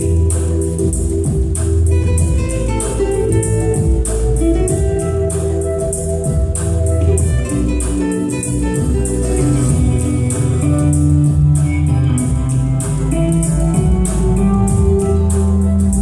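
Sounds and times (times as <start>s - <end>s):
plucked guitar music: 0.0s - 16.0s
steady beat: 0.0s - 16.0s.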